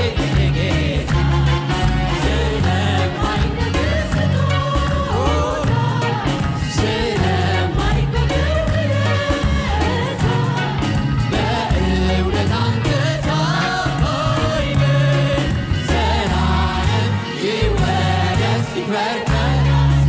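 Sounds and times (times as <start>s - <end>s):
choir singing gospel with band: 0.0s - 20.0s.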